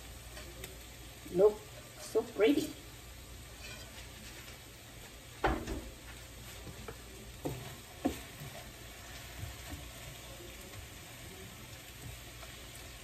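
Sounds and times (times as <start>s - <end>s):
food sizzling in a frying pan: 0.0s - 13.0s
wooden spatula stirring in pan: 0.0s - 13.0s.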